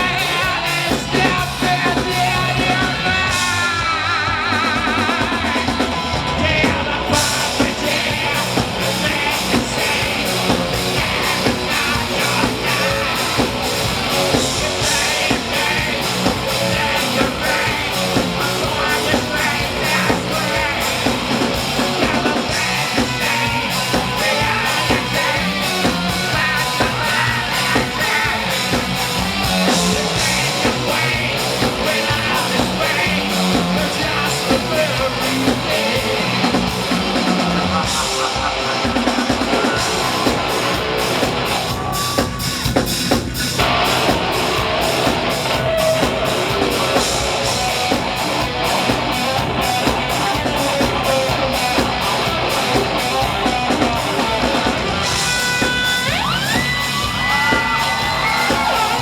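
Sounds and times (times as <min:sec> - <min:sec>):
drum kit: 0:00.0 - 0:59.0
electric guitars: 0:00.0 - 0:59.0
live rock band: 0:00.0 - 0:59.0.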